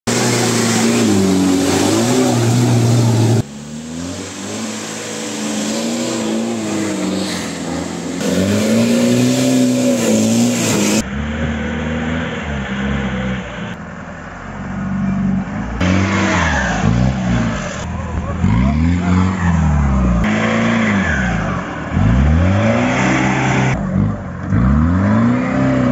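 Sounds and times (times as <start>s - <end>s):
off-road engines revving: 0.0s - 25.9s.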